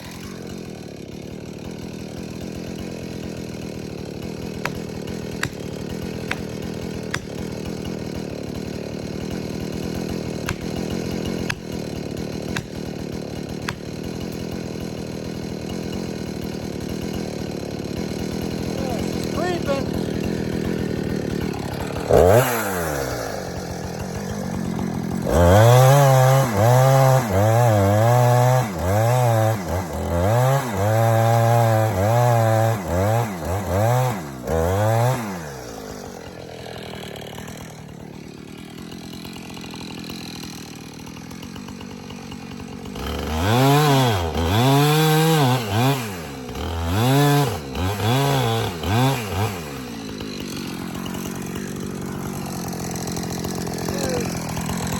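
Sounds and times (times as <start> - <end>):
chainsaw revving and idling: 0.0 - 54.9.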